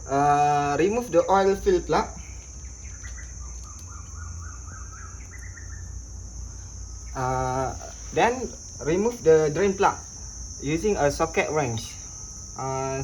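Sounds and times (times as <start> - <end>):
cricket chirring: 0.0 - 13.0.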